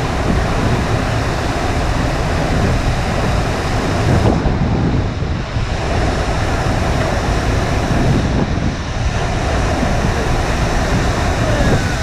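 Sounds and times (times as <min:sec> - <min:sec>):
water rushing up a ramp: 0:00.0 - 0:12.0
wind buffeting microphone: 0:00.0 - 0:12.0.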